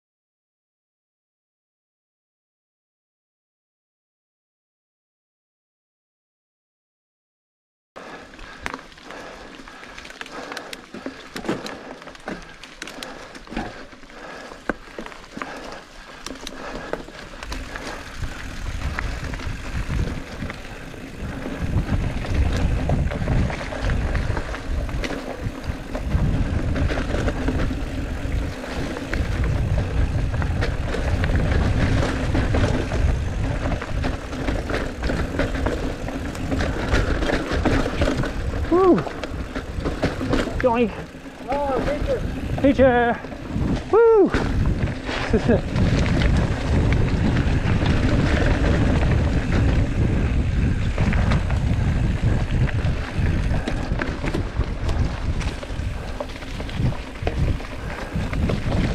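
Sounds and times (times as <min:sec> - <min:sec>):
bike rattling and clicking: 0:08.0 - 0:58.9
mountain bike tyre noise: 0:08.0 - 0:58.9.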